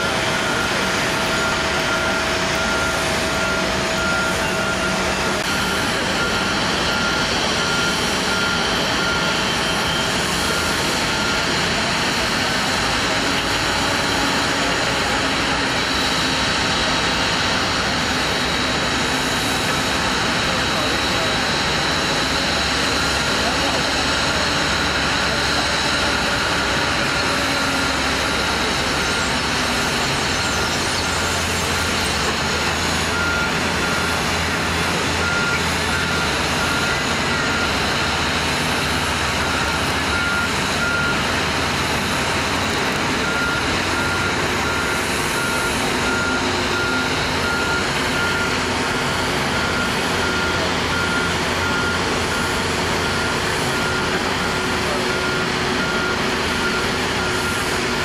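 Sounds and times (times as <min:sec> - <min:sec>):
loud engine noise: 0:00.0 - 0:58.0
vehicle warning beeper: 0:00.0 - 0:58.0.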